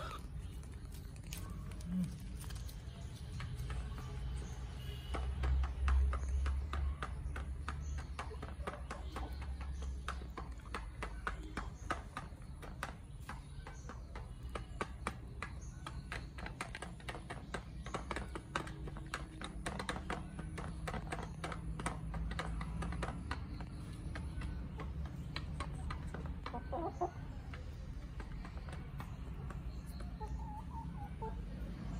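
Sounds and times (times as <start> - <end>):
chickens pecking on tray: 0.0 - 31.9.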